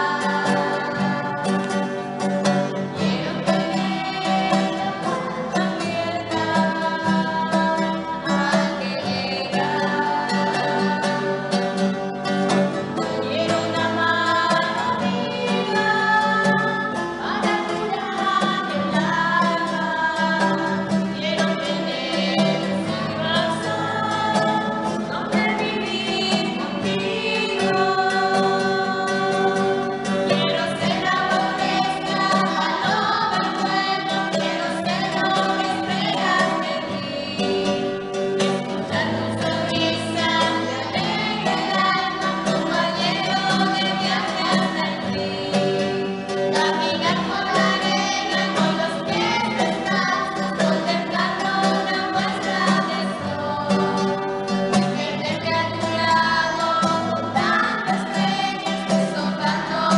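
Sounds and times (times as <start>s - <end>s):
woman and girl singing: 0.0s - 2.0s, 2.9s - 11.6s, 13.0s - 59.9s
acoustic guitar: 0.0s - 59.9s.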